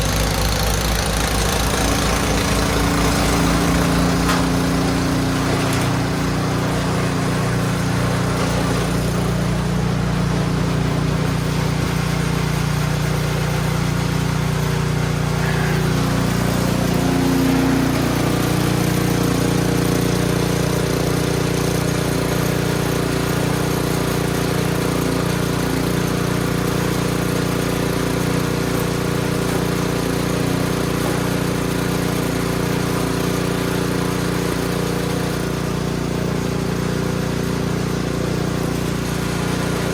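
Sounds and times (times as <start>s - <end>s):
snow blower engine running: 0.0s - 39.9s.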